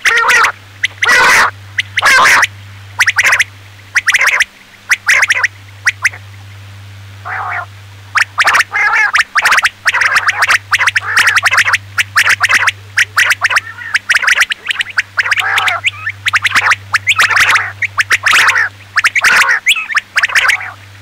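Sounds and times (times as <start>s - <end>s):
quail calling: 0.0s - 6.3s, 7.2s - 21.0s
low electrical hum: 0.0s - 21.0s.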